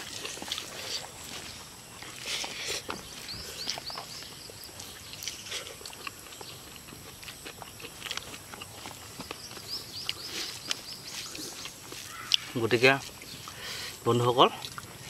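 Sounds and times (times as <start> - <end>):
wet chewing and slurping: 0.0 - 15.0.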